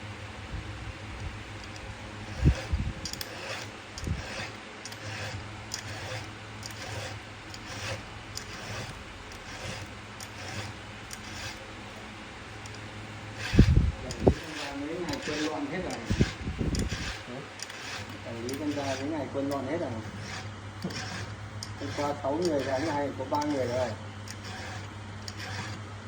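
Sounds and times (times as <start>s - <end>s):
low steady hum: 0.0s - 26.0s
file rasping on chainsaw chain: 1.6s - 25.8s.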